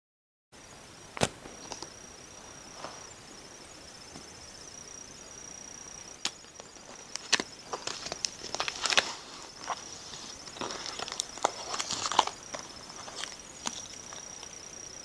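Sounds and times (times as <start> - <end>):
faint high whine: 0.6 - 15.0.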